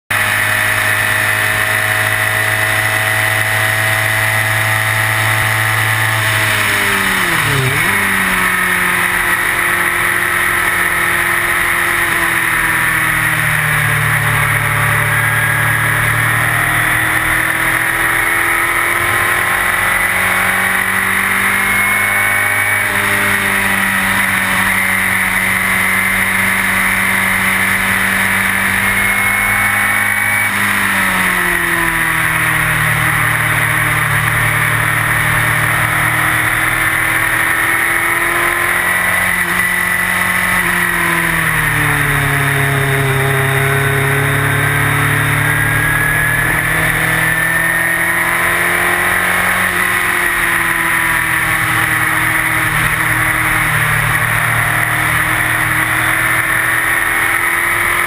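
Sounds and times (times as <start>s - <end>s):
race car engine revving: 0.1s - 58.0s.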